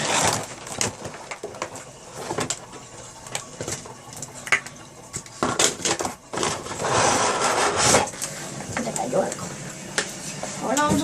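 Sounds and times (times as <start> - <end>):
plastic packaging rustling: 0.0 - 9.4.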